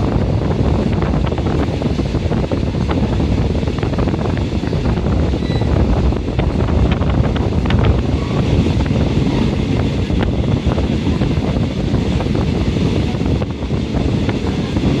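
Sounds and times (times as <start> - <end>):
train rumbling: 0.0 - 15.0
wind noise on microphone: 0.0 - 15.0.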